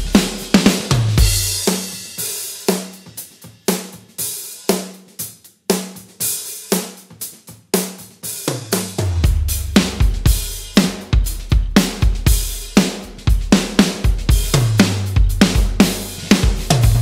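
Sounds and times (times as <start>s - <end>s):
drum kit played with sticks: 0.0s - 17.0s.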